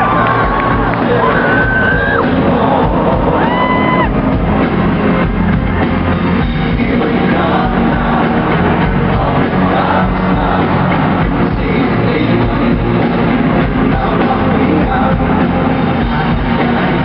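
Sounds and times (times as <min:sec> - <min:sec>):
person singing: 0:00.0 - 0:04.2, 0:06.6 - 0:17.0
crowd voices: 0:00.0 - 0:17.0
live pop-rock band: 0:00.0 - 0:17.0.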